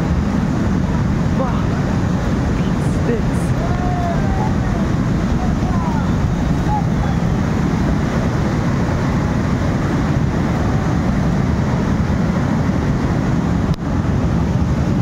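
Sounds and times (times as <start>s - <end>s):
muddy water torrent roaring: 0.0s - 15.0s.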